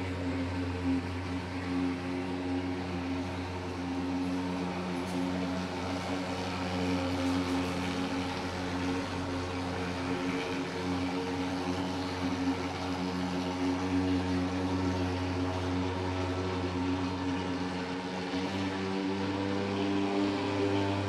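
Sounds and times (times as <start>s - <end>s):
fogging machine engine drone: 0.0s - 21.0s.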